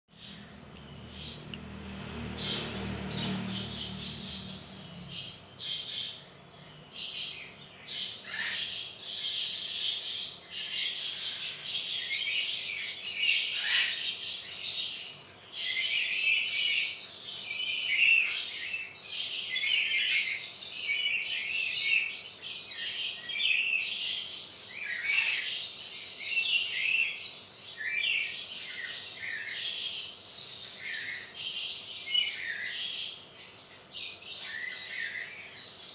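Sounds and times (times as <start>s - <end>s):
birds chirping and squawking: 0.1s - 35.9s.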